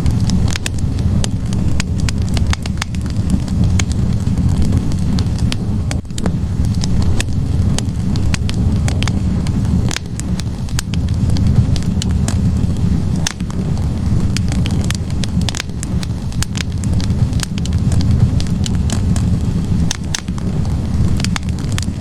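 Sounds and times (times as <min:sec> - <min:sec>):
log fire crackling and popping: 0:00.0 - 0:22.0.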